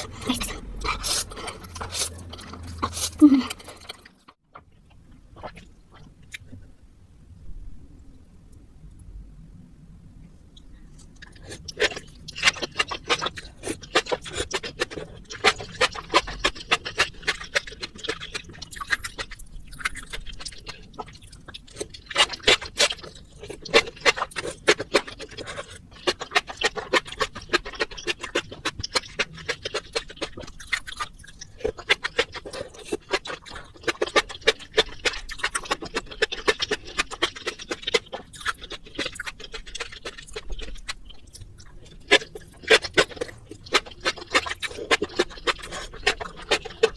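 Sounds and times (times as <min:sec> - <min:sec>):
wet chewing and mouth clicks: 0:00.0 - 0:06.6, 0:10.6 - 0:46.9.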